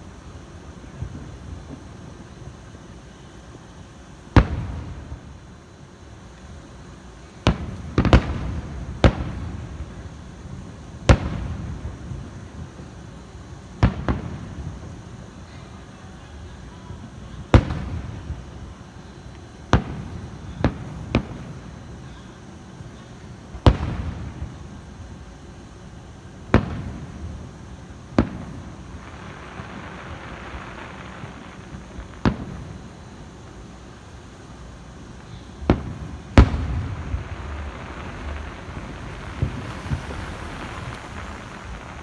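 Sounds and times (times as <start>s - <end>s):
fireworks bursting with echo: 0.0s - 42.0s.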